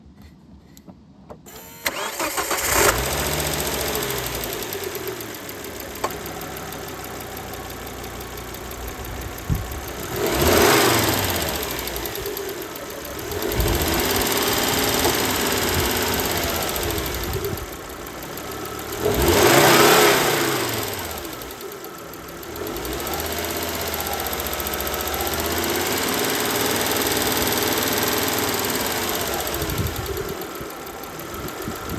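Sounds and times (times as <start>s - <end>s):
car engine revving: 1.5s - 31.9s
engine ticking noise: 1.5s - 31.9s.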